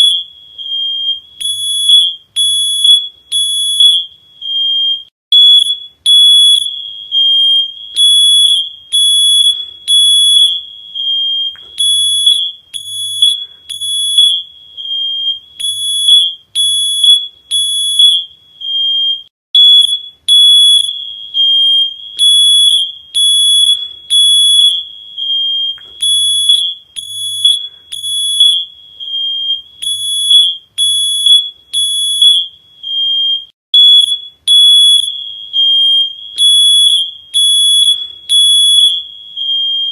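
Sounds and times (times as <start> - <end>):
electronic alarm beeping: 0.0 - 39.9.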